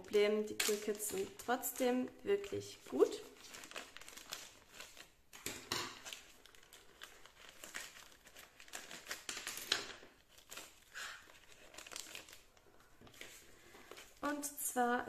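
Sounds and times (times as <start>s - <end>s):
plastic bag crinkling: 0.4s - 14.6s.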